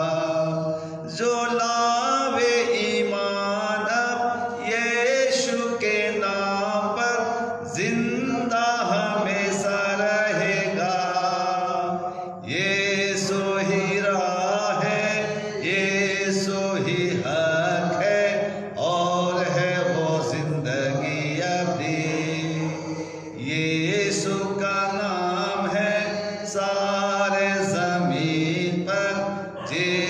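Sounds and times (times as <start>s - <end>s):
man singing a hymn: 0.0s - 30.0s.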